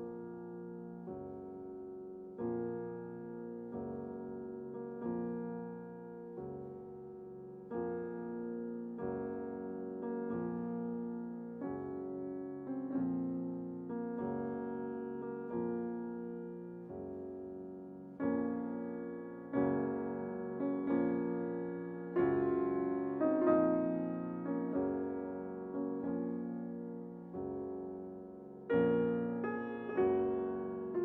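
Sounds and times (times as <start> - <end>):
slow gentle piano chords: 0.0 - 31.0.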